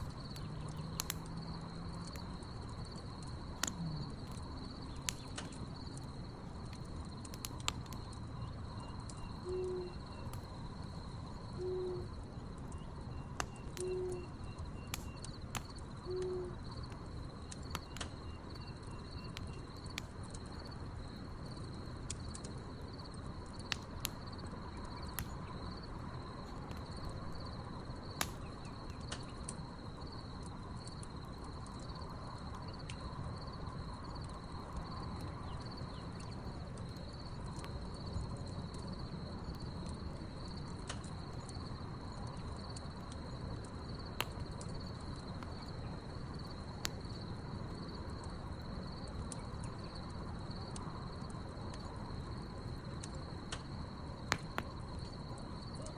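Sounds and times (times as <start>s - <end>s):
campfire crackling and popping: 0.0s - 55.9s
crickets chirping: 0.0s - 55.9s.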